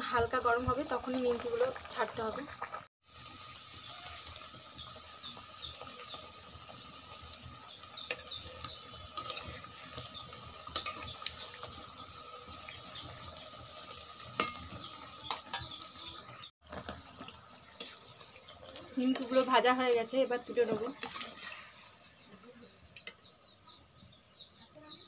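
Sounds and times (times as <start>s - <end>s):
dough sizzling in oil: 0.0s - 25.0s
metal spatula scraping wok: 2.6s - 23.5s.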